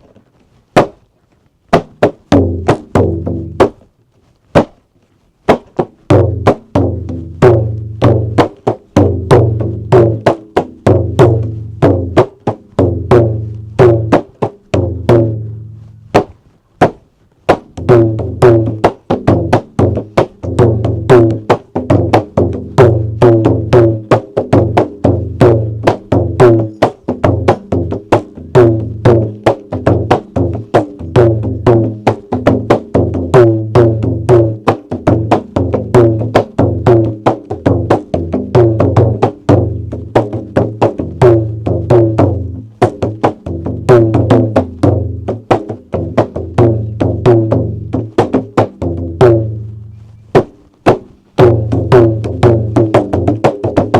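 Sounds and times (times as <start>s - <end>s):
large wooden drum strokes: 0.0s - 53.9s.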